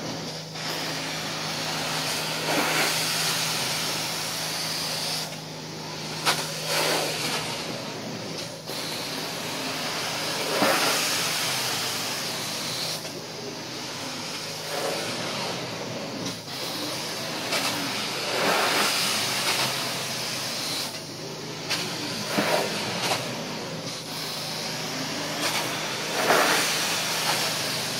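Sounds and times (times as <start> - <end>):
carpet extraction wand hissing: 0.0 - 27.9.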